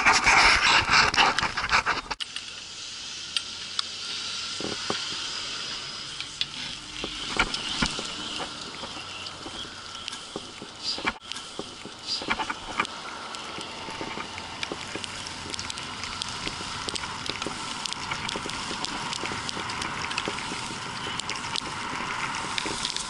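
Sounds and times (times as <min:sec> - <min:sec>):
skis scraping over packed snow: 0:00.0 - 0:02.2, 0:04.1 - 0:23.0
skis gliding over snow: 0:00.0 - 0:23.0.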